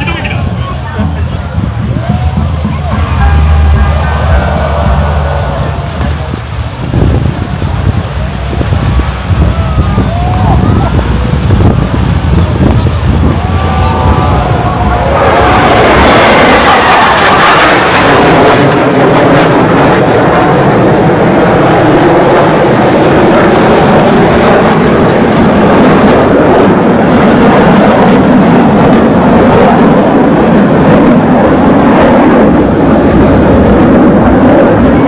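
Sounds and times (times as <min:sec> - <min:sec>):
jet aircraft roar: 0:00.0 - 0:35.0.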